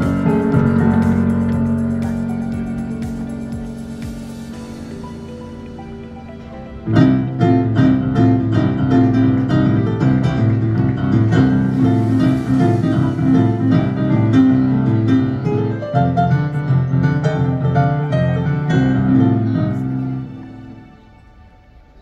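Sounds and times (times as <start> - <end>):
piano: 0.0 - 22.0.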